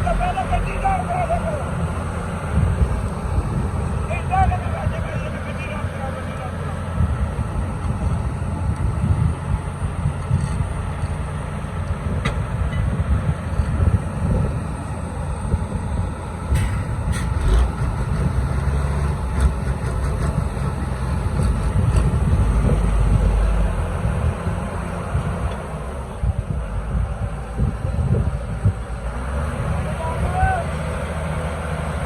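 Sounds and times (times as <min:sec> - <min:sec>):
heavy engine rumbling: 0:00.0 - 0:32.0.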